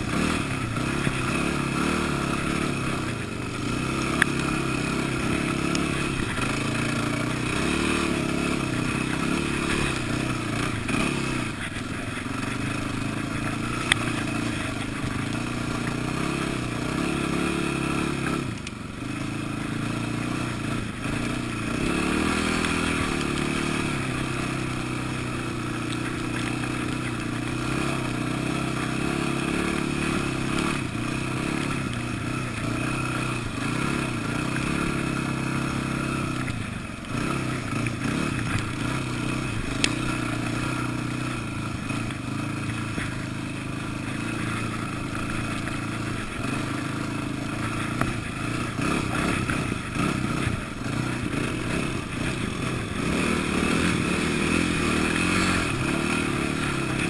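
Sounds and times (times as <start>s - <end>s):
off-road vehicle engine droning: 0.0s - 57.0s.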